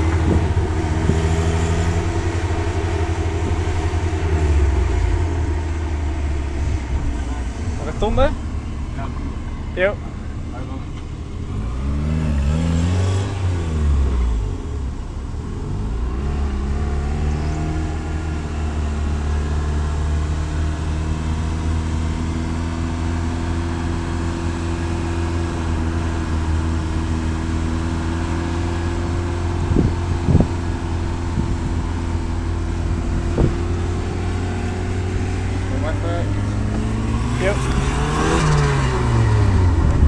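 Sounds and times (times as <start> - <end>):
turbocharged car engine revving: 0.0 - 40.0.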